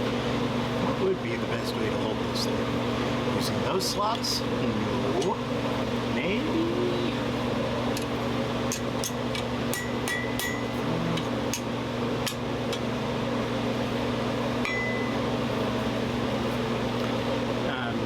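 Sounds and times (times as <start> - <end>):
blower fan humming: 0.0 - 18.0.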